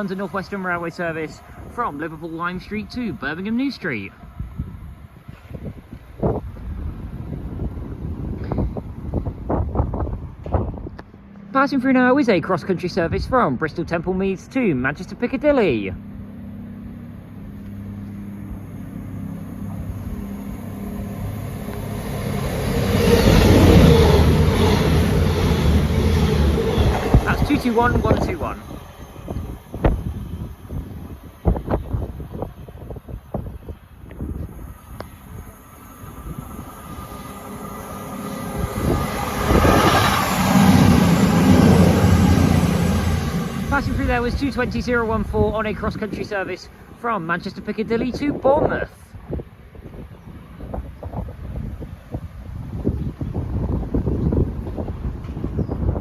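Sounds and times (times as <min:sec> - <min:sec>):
diesel train engines humming: 0:00.0 - 0:10.4, 0:11.2 - 0:56.0
train wheel and rail noise: 0:00.0 - 0:11.6, 0:15.2 - 0:48.1, 0:49.1 - 0:56.0.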